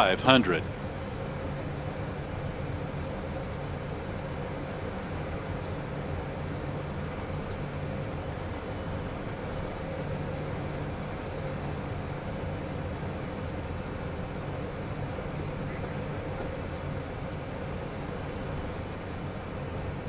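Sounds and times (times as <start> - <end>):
turbofan engine hum: 0.0 - 20.0.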